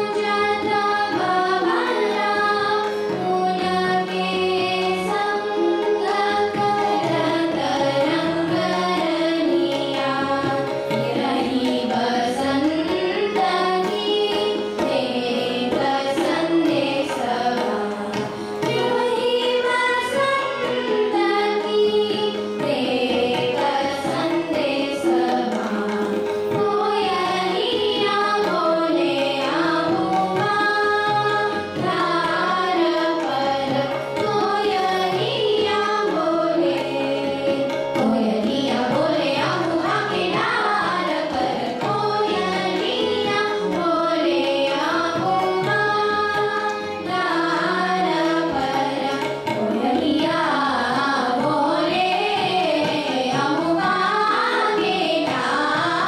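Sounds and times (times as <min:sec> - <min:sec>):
girls singing classical vocal: 0:00.0 - 0:56.0
harmonium: 0:00.0 - 0:56.0
tabla: 0:00.0 - 0:56.0.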